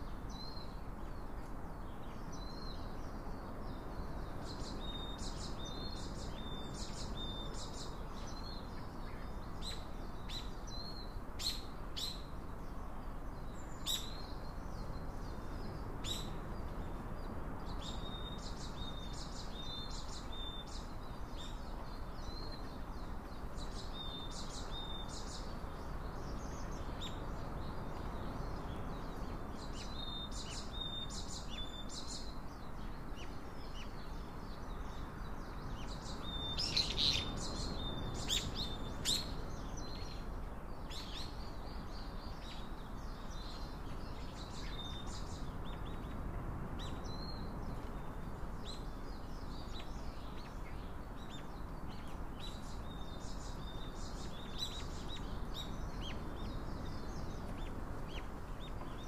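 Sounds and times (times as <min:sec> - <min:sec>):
small birds chirping: 0:00.0 - 0:59.0
steady background hiss: 0:00.0 - 0:59.0.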